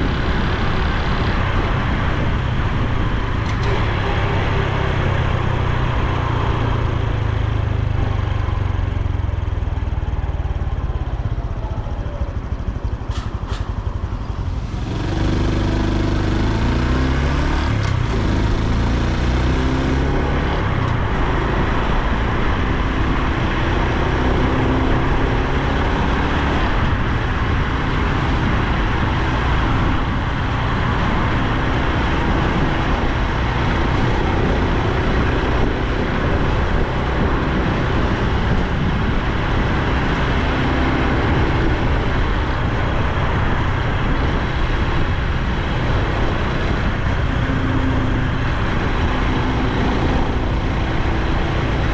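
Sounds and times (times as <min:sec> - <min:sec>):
motorcycle engine: 0:00.0 - 0:51.9
wind and road noise: 0:00.0 - 0:51.9.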